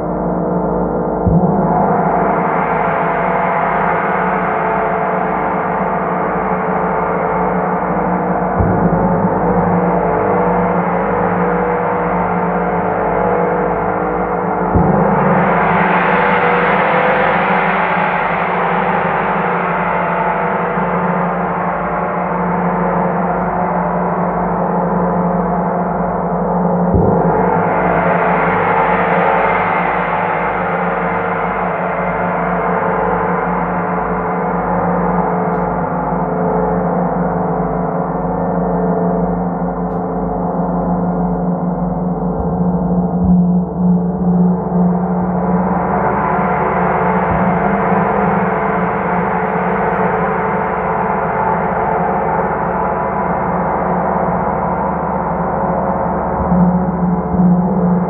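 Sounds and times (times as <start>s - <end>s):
large gong ringing: 1.2s - 33.9s, 38.4s - 58.0s.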